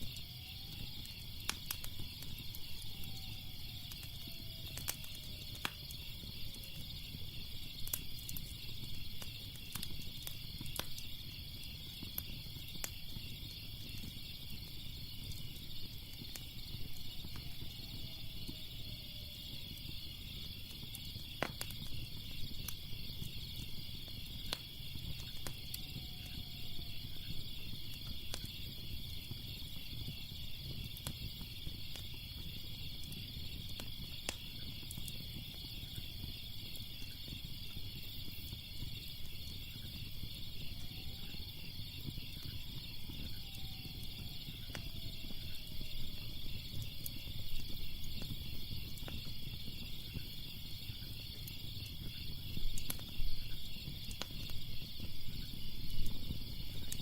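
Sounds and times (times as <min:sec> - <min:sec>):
crackling fire: 0:00.0 - 0:57.0
crickets chirping: 0:00.0 - 0:57.0.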